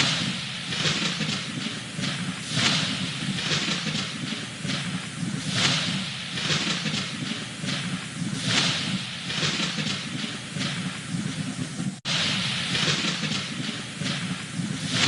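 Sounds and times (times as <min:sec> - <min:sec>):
steady low rumble: 0:00.0 - 0:15.0
synthesized hissing rushing noise: 0:00.0 - 0:15.0.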